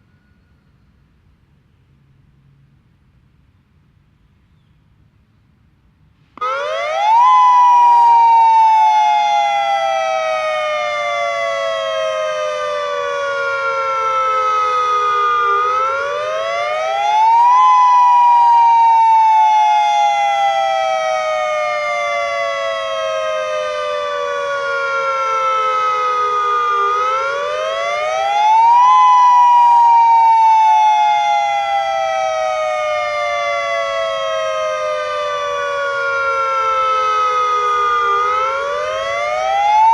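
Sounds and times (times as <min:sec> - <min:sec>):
wailing civil defense siren: 0:00.0 - 0:00.6, 0:06.4 - 0:39.9.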